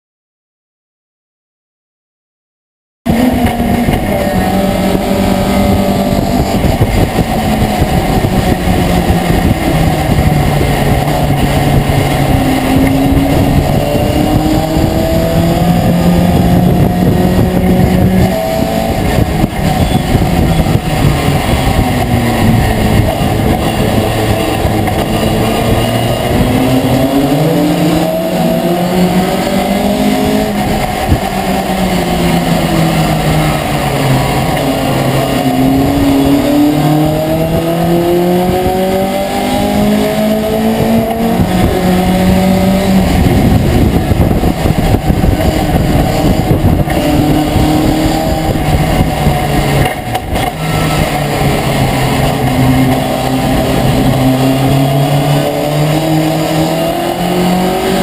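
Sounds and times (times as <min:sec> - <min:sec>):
truck engine revving through gears: 0:03.1 - 0:58.0.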